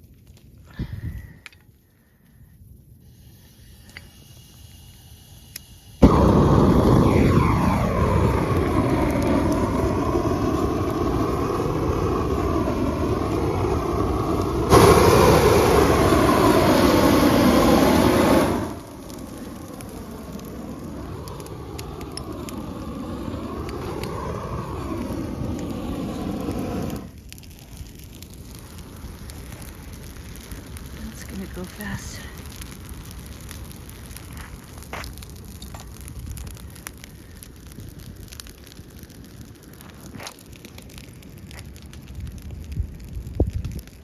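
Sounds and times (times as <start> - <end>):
propane torch roaring: 2.9 - 44.0.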